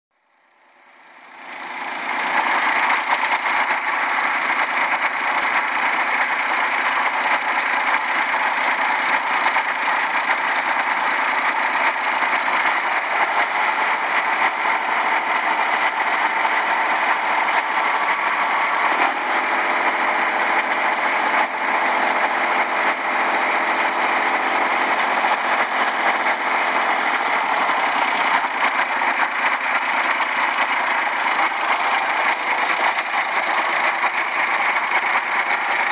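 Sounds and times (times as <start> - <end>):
tractor engine running: 0.2 - 35.9.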